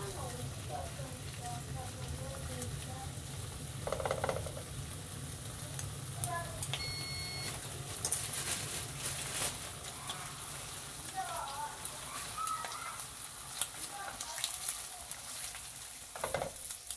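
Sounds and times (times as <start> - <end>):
ham sizzling in oil: 0.0 - 16.9.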